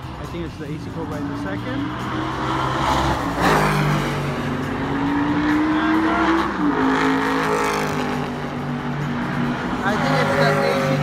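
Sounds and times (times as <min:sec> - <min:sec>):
race cars passing at speed: 0:00.0 - 0:11.0.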